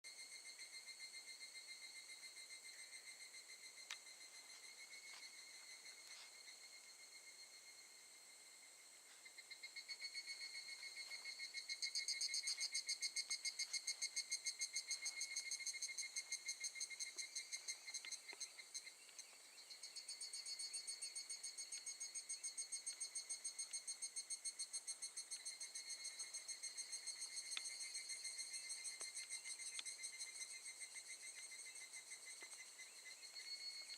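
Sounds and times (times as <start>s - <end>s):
evening cicadas droning: 0.1s - 33.9s.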